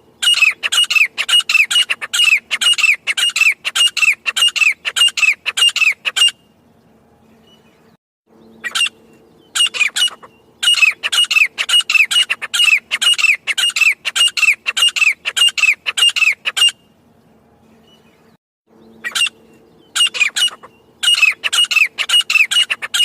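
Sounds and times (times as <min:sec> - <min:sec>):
francolin harsh grating calls: 0:00.2 - 0:06.4, 0:08.6 - 0:16.9, 0:19.0 - 0:23.0.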